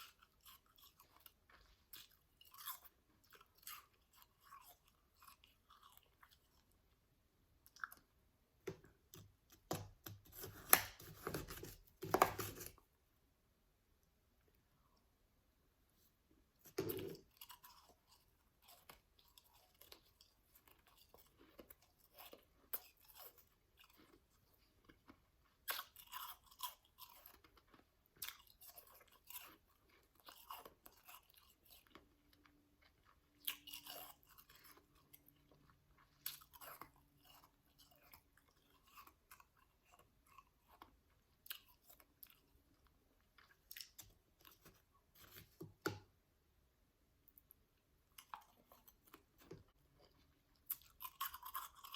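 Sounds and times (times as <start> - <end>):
ice crunching while chewed: 0.0 - 12.8, 16.6 - 45.9, 48.1 - 51.9.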